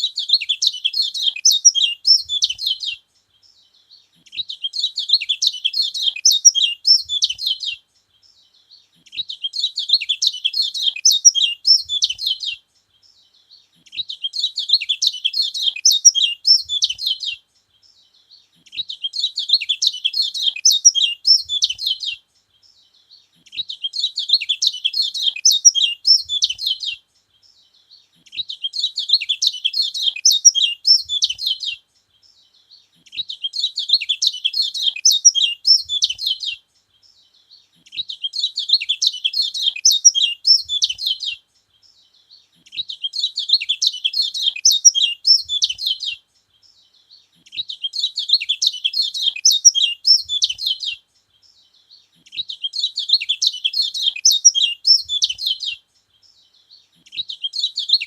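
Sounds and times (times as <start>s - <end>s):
bird twittering: 0.0s - 31.8s, 32.7s - 36.6s, 37.5s - 58.0s.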